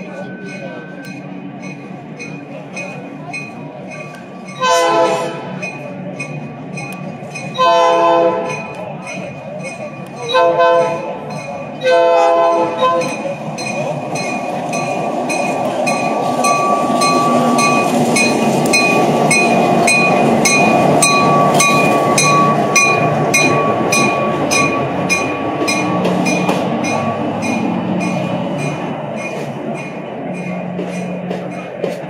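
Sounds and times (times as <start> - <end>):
wheel squeal on rail: 0.0 - 31.7
locomotive bell ringing: 0.0 - 32.0
train engine and wheels rumbling: 0.0 - 32.0.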